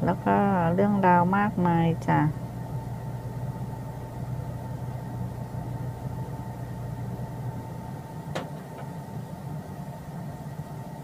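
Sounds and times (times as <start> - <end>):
faint steady whine: 0.0 - 11.0
low mechanical hum: 0.0 - 11.0.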